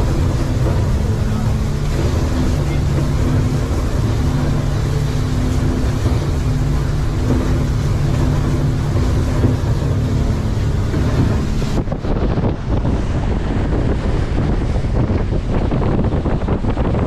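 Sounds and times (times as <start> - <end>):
engine humming: 0.0 - 17.0
wind buffeting microphone: 0.0 - 17.0.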